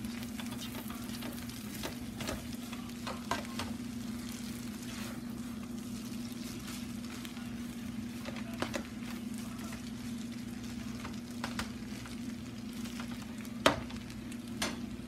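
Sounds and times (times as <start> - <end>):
food sizzling in frying pan: 0.0 - 15.0
steady low hum: 0.0 - 15.0.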